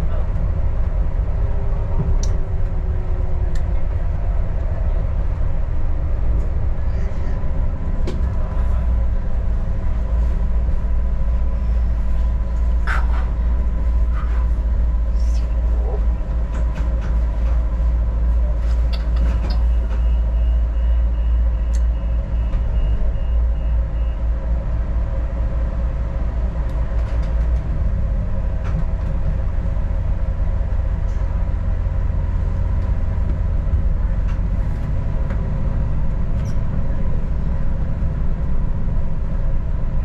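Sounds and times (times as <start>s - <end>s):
railcar engine and wheels rumbling: 0.0s - 40.0s.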